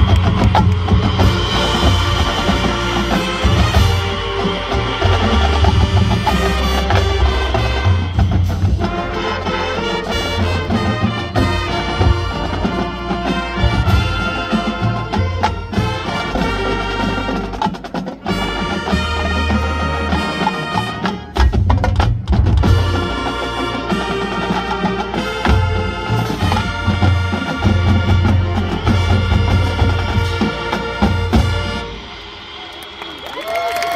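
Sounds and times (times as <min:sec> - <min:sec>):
marching band playing: 0:00.0 - 0:33.9.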